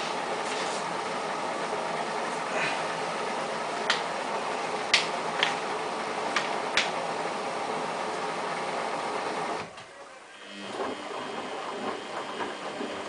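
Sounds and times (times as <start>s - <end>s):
washing machine drum churning: 0.0s - 13.0s.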